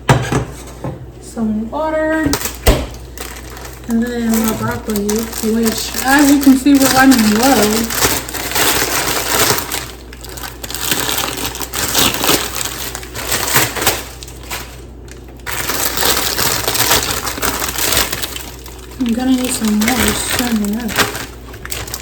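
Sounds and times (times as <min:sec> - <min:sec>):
plastic bag rustling and crinkling: 0:02.3 - 0:22.0.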